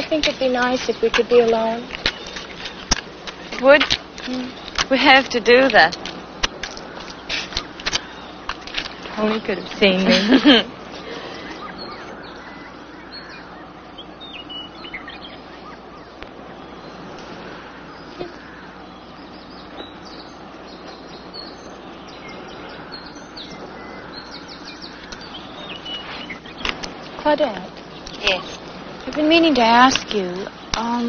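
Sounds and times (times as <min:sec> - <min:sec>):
small birds chirping: 0:00.0 - 0:31.0
steady background hiss: 0:00.0 - 0:31.0.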